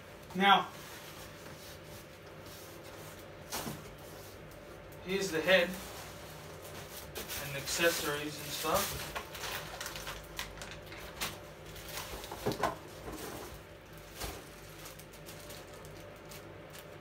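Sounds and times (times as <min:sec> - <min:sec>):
plastic wrapping crinkling: 0:01.2 - 0:17.0.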